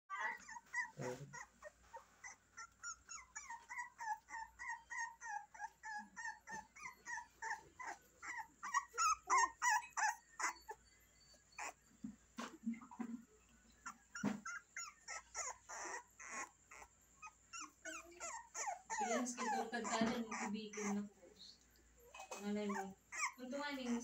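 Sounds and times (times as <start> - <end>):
puppy whimpering: 0.1 - 13.0, 13.7 - 21.5, 22.3 - 24.0.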